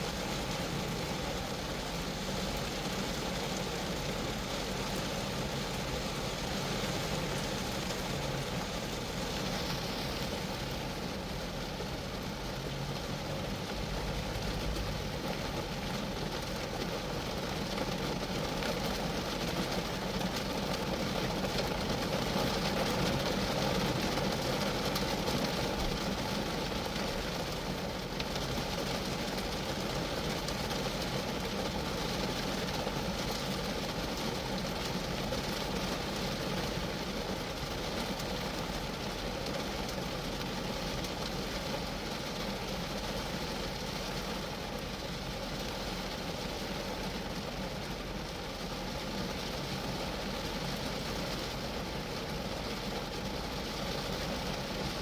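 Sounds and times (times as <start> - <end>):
rain falling on a car: 0.0 - 55.0.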